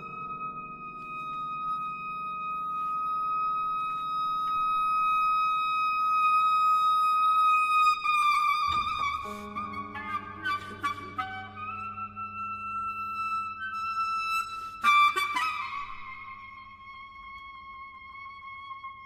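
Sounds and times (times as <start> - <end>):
clarinet holding a high note: 0.0 - 19.0.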